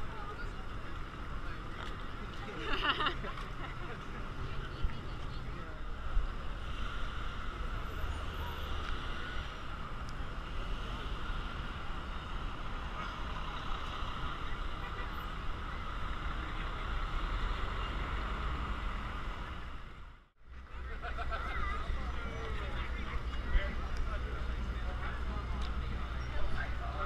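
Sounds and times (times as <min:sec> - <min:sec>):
street din: 0:00.0 - 0:27.0
vehicles rumbling past: 0:00.0 - 0:27.0.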